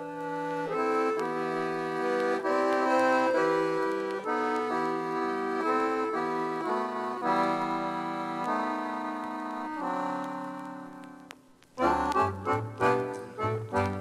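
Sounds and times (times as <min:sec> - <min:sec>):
instrumental music with held chords: 0:00.0 - 0:14.0.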